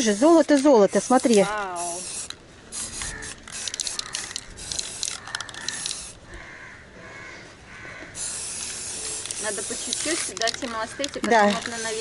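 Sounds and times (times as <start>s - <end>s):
aerosol spray can hissing: 0.0s - 6.2s, 8.2s - 12.0s.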